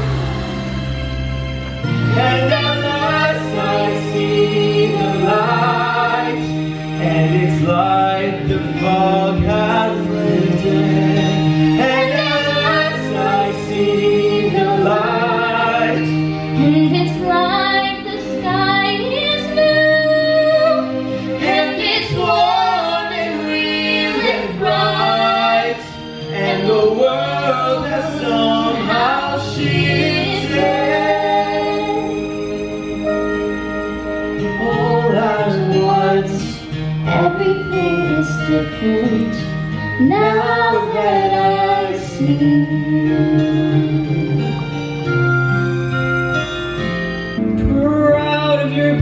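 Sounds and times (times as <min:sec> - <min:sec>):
instrumental accompaniment low notes: 0:00.0 - 0:49.0
woman and man singing duet: 0:02.2 - 0:32.3, 0:34.6 - 0:44.6.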